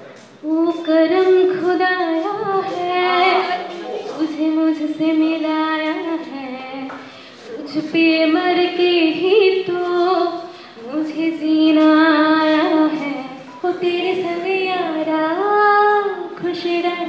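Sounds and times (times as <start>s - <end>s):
women singing into microphones: 0.4s - 17.0s.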